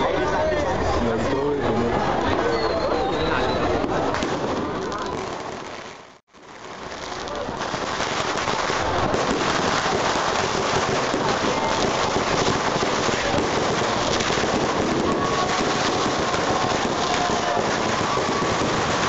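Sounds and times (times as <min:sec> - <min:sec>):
firecrackers crackling: 0:03.4 - 0:19.0.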